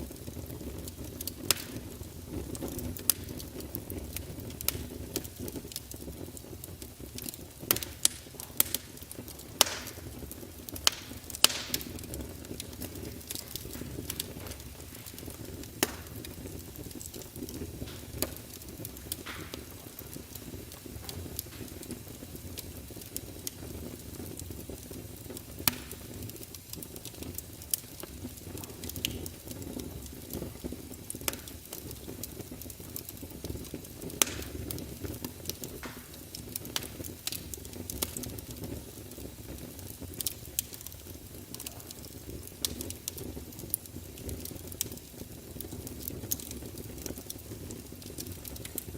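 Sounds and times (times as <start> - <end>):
fire flames rumbling: 0.0 - 48.9
sharp fire pops: 0.0 - 48.9
wood fire crackling: 0.0 - 48.9.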